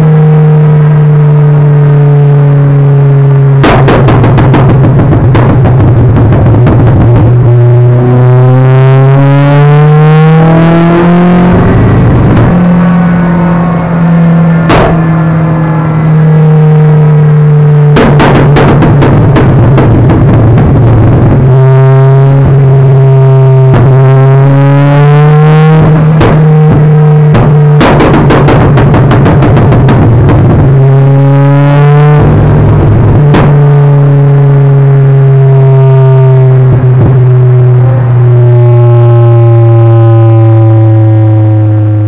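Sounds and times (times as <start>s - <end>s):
car engine revving on a dyno: 0.0s - 42.0s
sharp crack: 3.4s - 40.6s.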